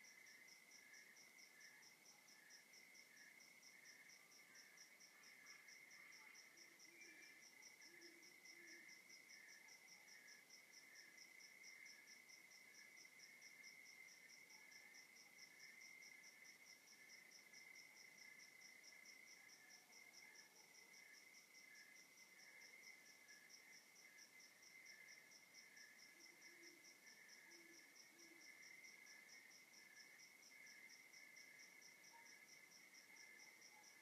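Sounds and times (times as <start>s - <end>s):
cricket chirping in pulses: 0.0s - 34.0s.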